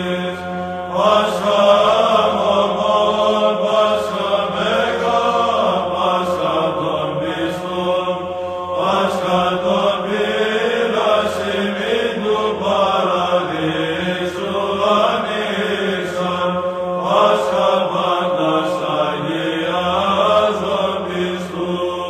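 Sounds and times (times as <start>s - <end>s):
held drone note: 0.0s - 22.0s
voices chanting: 0.0s - 22.0s.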